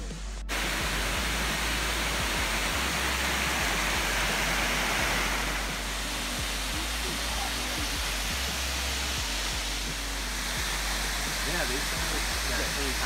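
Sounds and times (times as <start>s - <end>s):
waterfall rushing: 0.5s - 13.0s.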